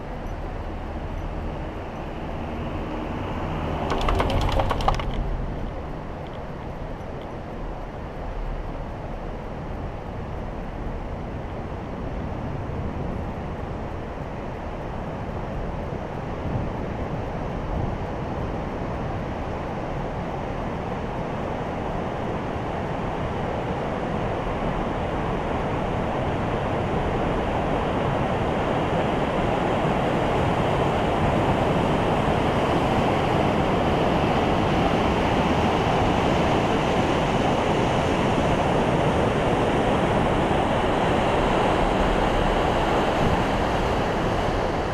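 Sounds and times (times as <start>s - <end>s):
rushing noise inside gondola cabin: 0.0s - 44.9s.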